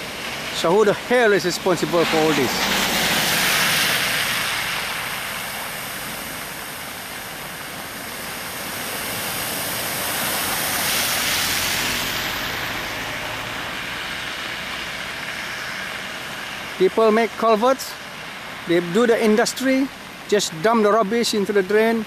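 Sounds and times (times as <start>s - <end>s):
car tyres spraying through floodwater: 0.0s - 22.0s.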